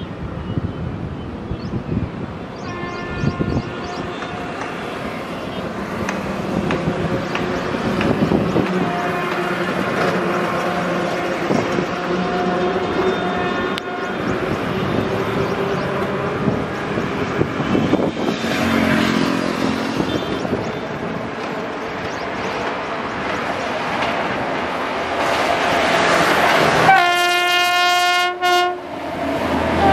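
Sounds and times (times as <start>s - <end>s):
train rolling over rails: 0.1s - 29.9s.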